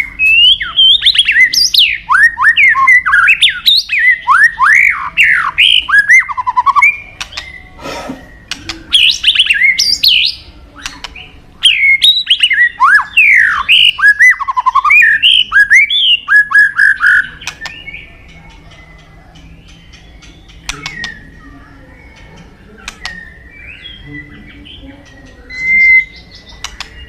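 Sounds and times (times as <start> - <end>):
bird whistling song: 0.0 - 27.0.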